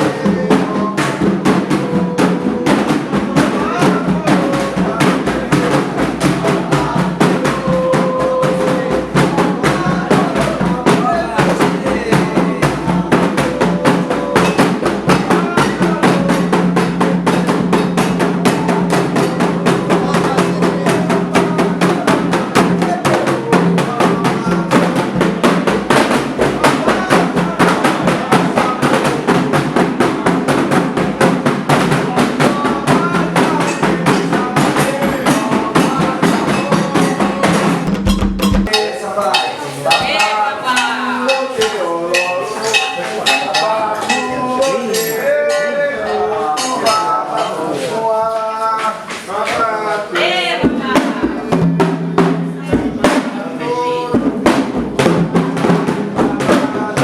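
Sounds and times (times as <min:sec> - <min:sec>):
voices chanting: 0:00.0 - 0:38.0, 0:38.6 - 0:57.0
hand drums playing fast rhythm: 0:00.0 - 0:47.9, 0:50.1 - 0:57.0.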